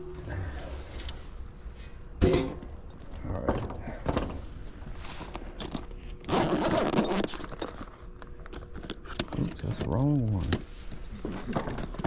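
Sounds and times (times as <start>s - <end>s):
crunching and scraping: 0.1s - 12.0s.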